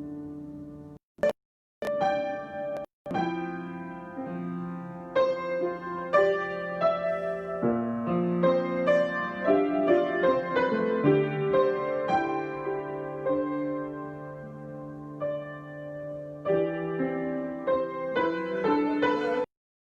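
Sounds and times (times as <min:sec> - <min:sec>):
improvised piano: 0:00.0 - 0:19.5.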